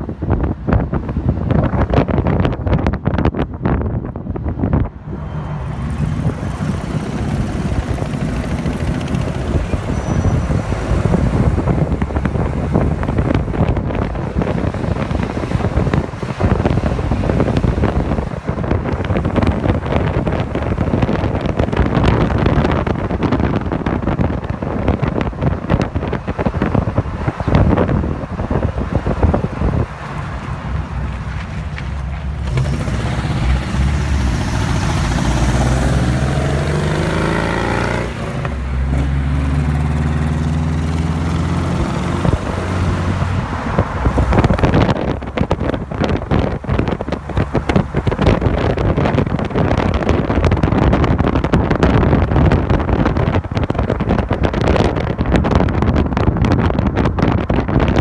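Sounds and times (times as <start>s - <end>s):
road noise rumble: 0.0s - 58.0s
wind buffeting microphone: 0.0s - 58.0s
car engine running: 5.6s - 57.8s.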